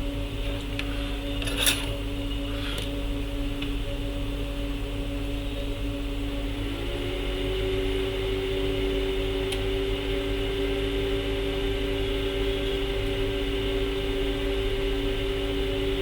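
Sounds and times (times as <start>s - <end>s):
low mains buzz: 0.0s - 16.0s.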